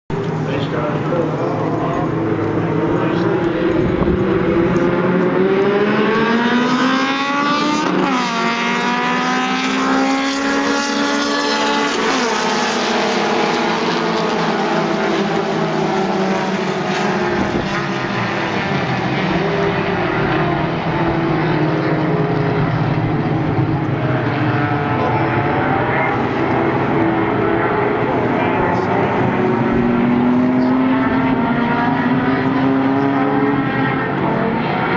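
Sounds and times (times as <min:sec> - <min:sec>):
race car engines accelerating: 0:00.1 - 0:34.9.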